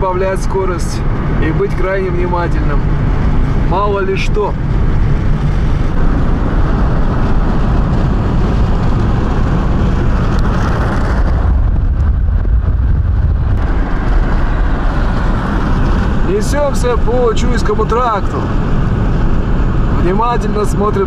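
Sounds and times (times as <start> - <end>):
engine and tyre road noise: 0.0 - 21.0
wind rushing past car: 0.0 - 21.0.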